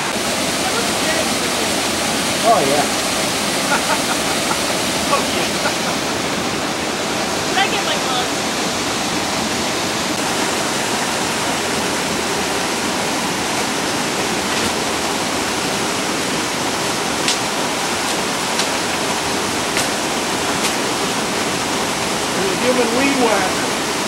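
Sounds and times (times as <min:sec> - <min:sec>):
cascading water rushing: 0:00.0 - 0:24.0.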